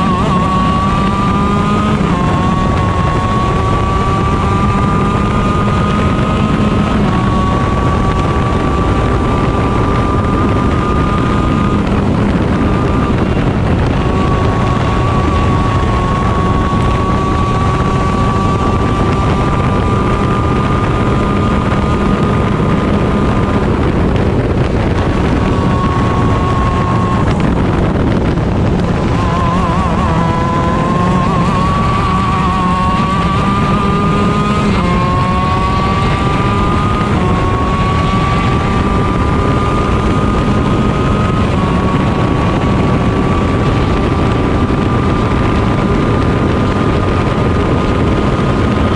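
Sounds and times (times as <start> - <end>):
kart engine at high revs: 0.0 - 48.9
wind noise on microphone: 0.0 - 48.9.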